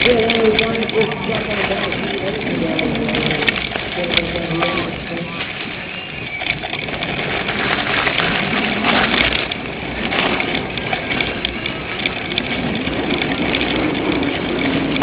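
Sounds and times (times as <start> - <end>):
bike rattles and clicks: 0.0 - 15.0
steady rush of noise: 0.0 - 15.0.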